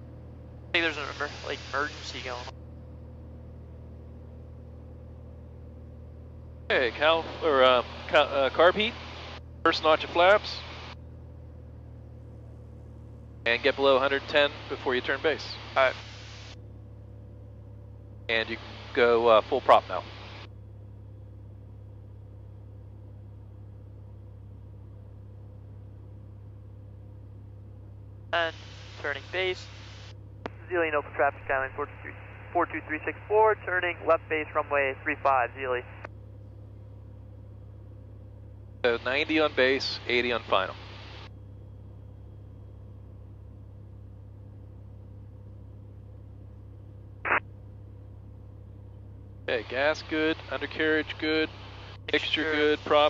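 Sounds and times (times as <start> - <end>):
airplane engine drone in cabin: 0.0 - 53.0.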